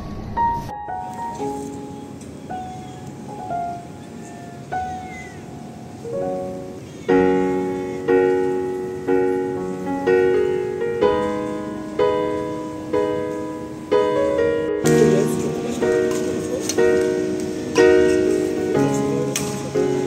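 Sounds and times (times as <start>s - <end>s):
soft piano chords: 0.0s - 20.0s.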